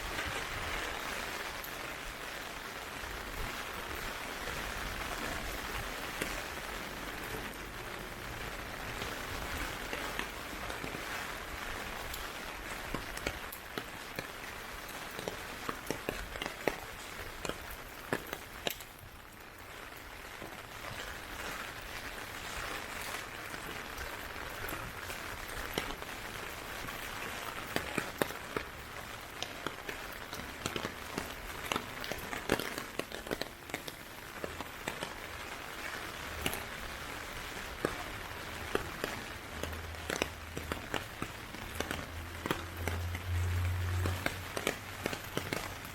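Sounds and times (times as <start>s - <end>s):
heavy rain falling: 0.0s - 45.9s
sharp raindrop impacts: 0.0s - 45.9s.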